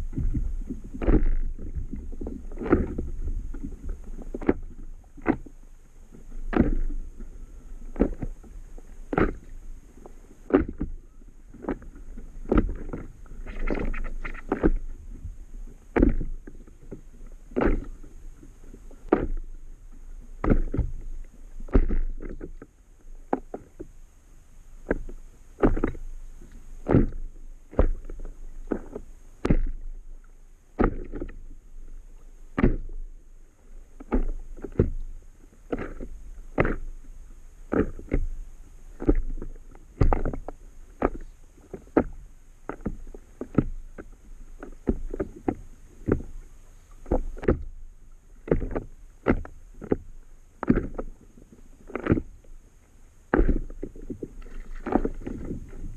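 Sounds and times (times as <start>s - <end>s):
waves slapping paddle board: 0.0s - 24.0s, 24.7s - 55.9s
low watery rumble: 0.0s - 55.9s.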